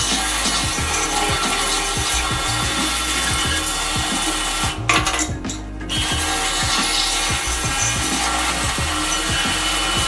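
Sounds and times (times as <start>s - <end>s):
pressure washer water jet hissing: 0.0s - 4.8s, 6.0s - 10.0s
background music with beat: 0.0s - 10.0s.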